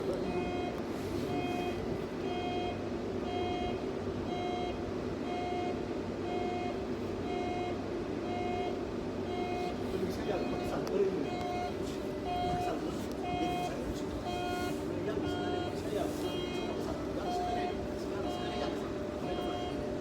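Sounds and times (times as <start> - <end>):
electronic warning beeps: 0.3 - 20.0.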